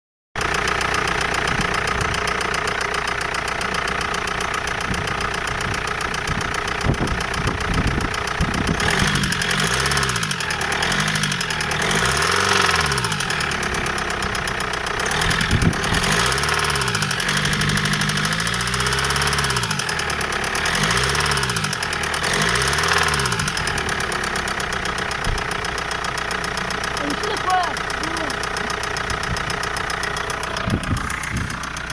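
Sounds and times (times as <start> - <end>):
car engine knocking: 0.4 - 31.9.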